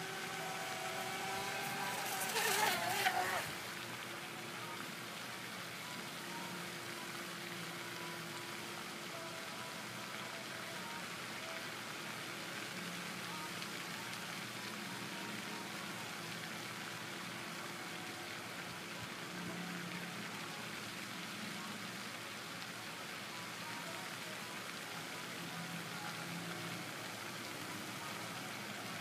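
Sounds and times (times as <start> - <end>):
fountain water splashing: 0.0 - 29.0.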